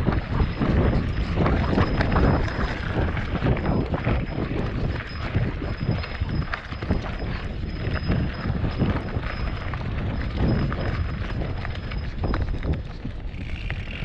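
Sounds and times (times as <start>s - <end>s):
bike rattling over rough ground: 0.0s - 14.0s
wind buffeting microphone: 0.0s - 14.0s.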